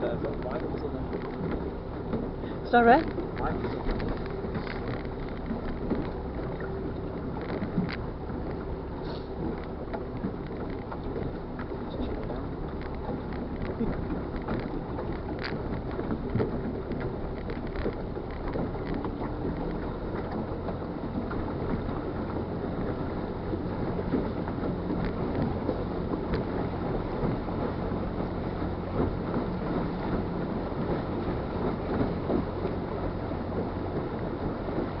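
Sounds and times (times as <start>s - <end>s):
boat engine humming: 0.0s - 35.0s
water rushing along hull: 0.0s - 35.0s
wind buffeting microphone: 0.0s - 35.0s.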